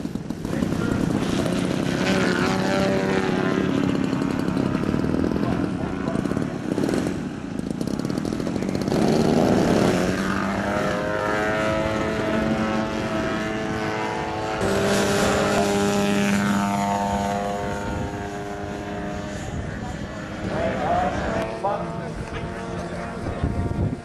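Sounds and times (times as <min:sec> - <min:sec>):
model plane engine running: 0:00.0 - 0:24.0.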